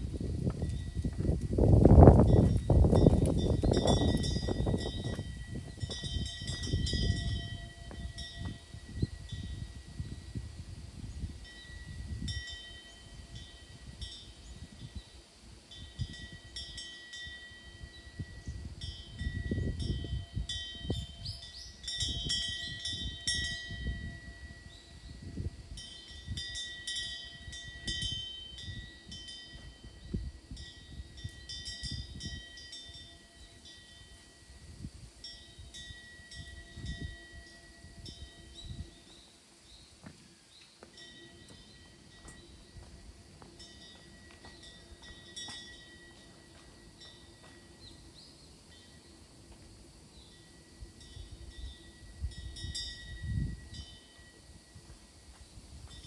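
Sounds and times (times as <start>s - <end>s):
metal wind chime tinkling: 0.6s - 56.0s
thin steady high tone: 0.7s - 56.0s.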